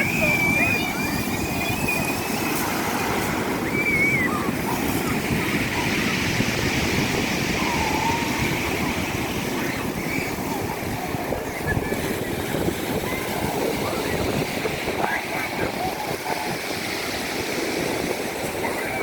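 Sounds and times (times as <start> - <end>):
waves rushing and breaking: 0.0 - 19.0.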